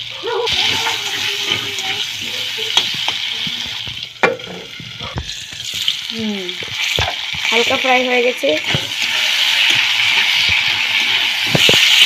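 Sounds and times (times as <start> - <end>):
potato wedges sizzling in oil: 0.0 - 12.0.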